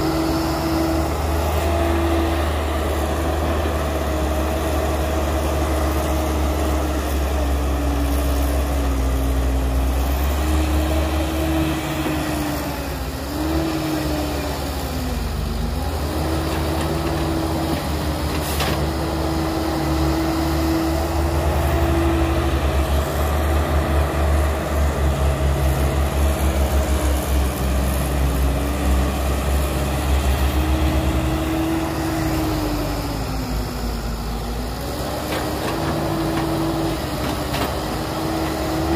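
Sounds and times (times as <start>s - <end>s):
heavy diesel engine rumbling: 0.0s - 38.9s.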